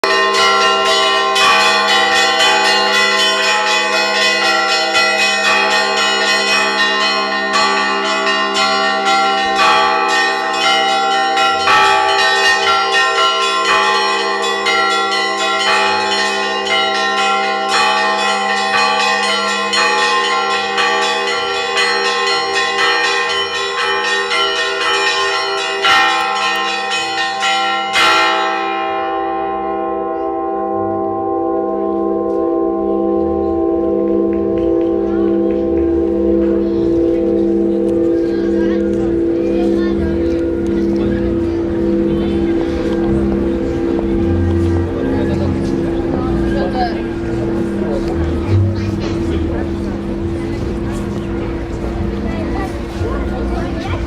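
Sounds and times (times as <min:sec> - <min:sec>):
large bells ringing: 0:00.0 - 0:54.0
small church bells struck rapidly: 0:00.0 - 0:54.0.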